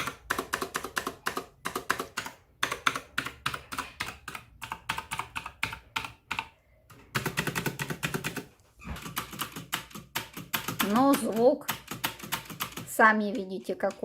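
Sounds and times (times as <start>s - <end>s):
typing on a mechanical keyboard: 0.0s - 14.0s.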